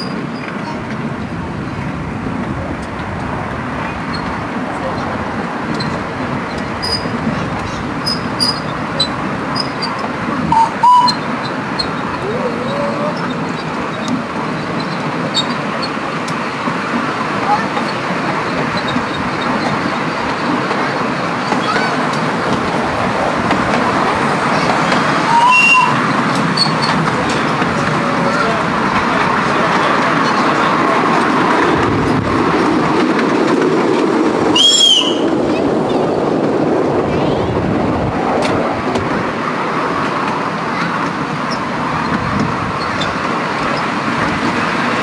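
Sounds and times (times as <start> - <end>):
miniature train running: 0.0 - 45.0.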